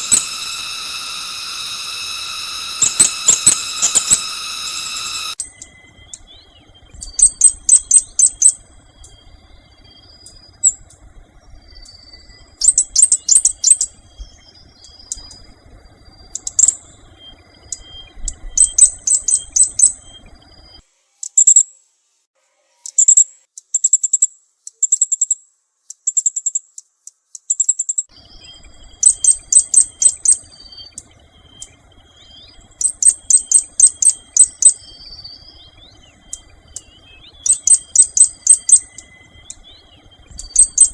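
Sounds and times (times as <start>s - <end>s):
small birds chirping: 0.0s - 21.8s, 22.6s - 40.9s.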